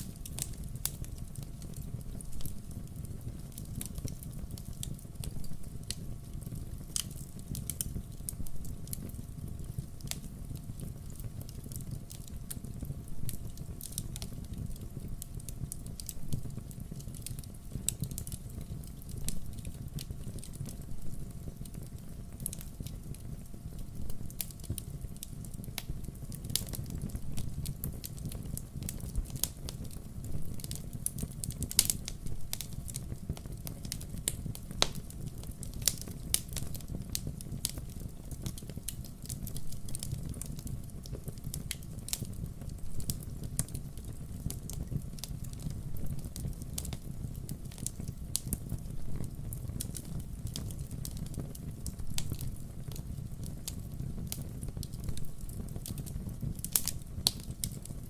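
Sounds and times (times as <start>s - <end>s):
burning logs crackling and popping: 0.0s - 58.0s
low rumble of flame: 0.0s - 58.0s.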